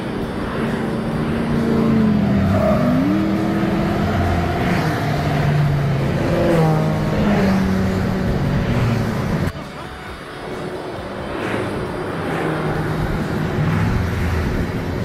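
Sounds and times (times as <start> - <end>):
road noise: 0.0 - 15.0
vehicle engines revving: 0.0 - 15.0.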